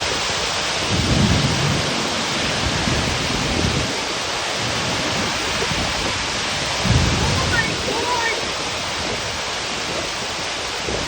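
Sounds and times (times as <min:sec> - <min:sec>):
heavy rain pouring: 0:00.0 - 0:11.0
low rumbles: 0:00.0 - 0:11.0.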